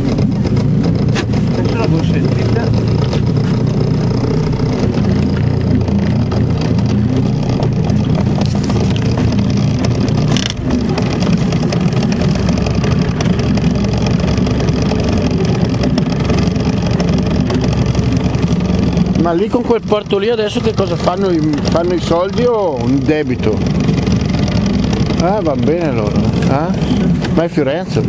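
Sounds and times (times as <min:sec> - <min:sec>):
boat motor droning: 0:00.0 - 0:28.0
water and hull noise: 0:00.0 - 0:28.0.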